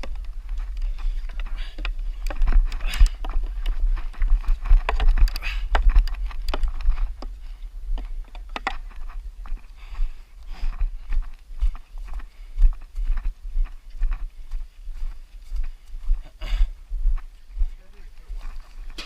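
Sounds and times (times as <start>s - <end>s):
wind rumble on microphone: 0.0s - 16.2s
running footsteps: 0.0s - 19.0s.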